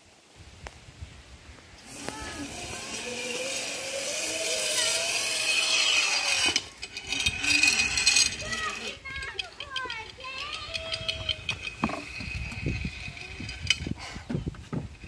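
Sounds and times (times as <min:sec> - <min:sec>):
zip line trolley whirring: 0:01.8 - 0:14.1.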